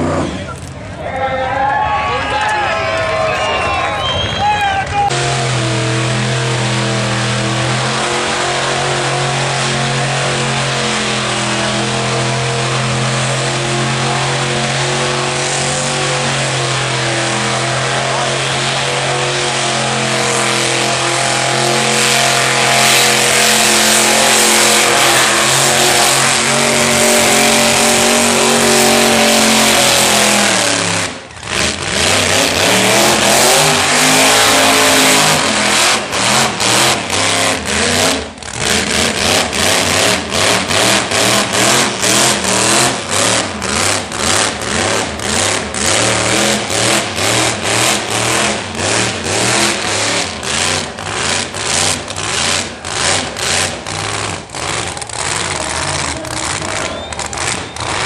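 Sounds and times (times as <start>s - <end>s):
car engine revving high: 5.1s - 58.0s.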